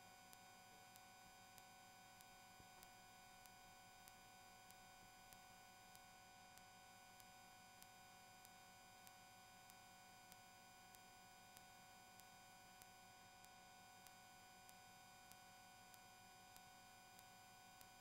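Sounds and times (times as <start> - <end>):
faint electronic hum and hiss: 0.0 - 18.0.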